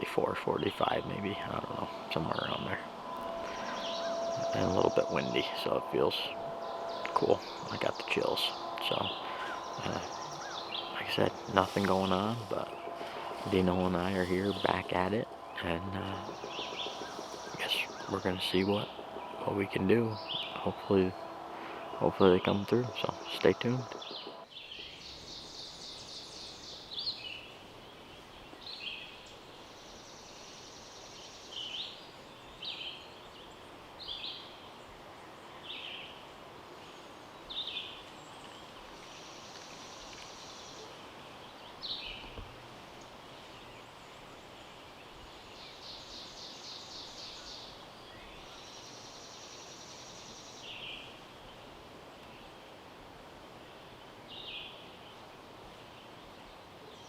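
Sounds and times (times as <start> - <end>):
songbirds chirping: 0.0 - 57.0
trilled bird songs: 0.0 - 57.0.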